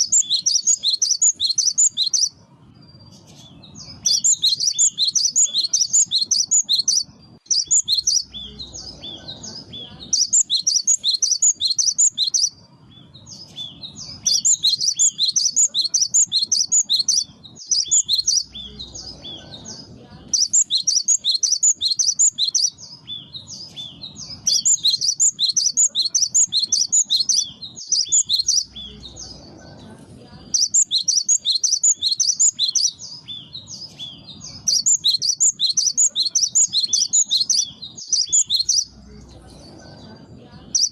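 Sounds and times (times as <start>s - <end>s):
bird singing rapid high notes: 0.0s - 29.5s, 30.4s - 39.0s, 40.7s - 40.9s.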